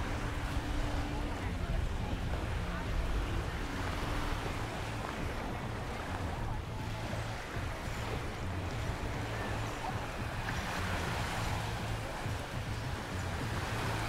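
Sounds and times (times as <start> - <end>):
surf washing in: 0.0 - 14.0
wind: 0.0 - 14.0.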